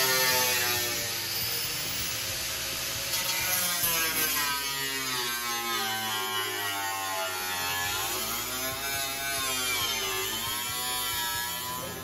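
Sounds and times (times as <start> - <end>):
angle grinder cutting steel: 0.0 - 12.0.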